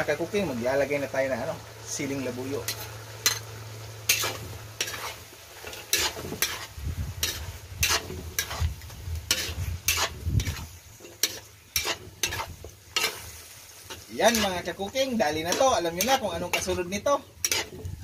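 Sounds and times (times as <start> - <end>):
frying hiss: 0.0 - 18.0
spatula scraping a wok: 2.6 - 18.0.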